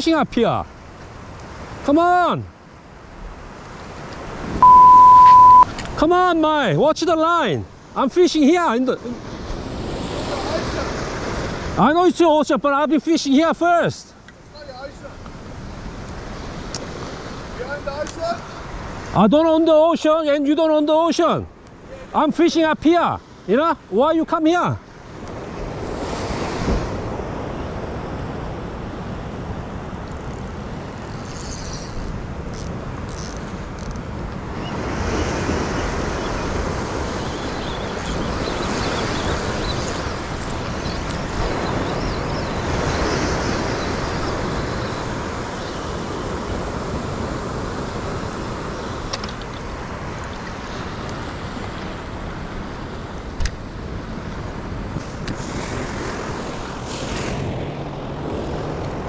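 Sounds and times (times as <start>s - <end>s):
ocean surf washing: 0.0s - 59.0s.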